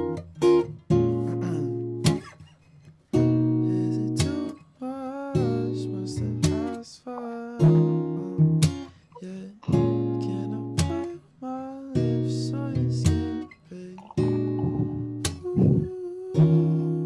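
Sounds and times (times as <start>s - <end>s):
guitar strummed slowly: 0.0s - 2.5s, 3.1s - 11.2s, 11.9s - 17.0s.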